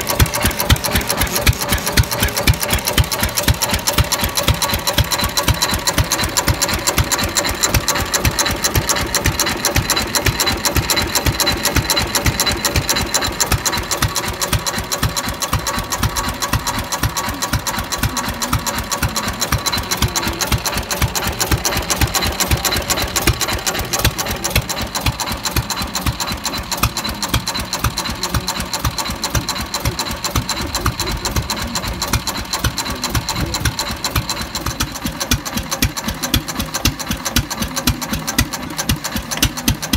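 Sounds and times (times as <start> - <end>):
stationary engine knocking: 0.0 - 39.9.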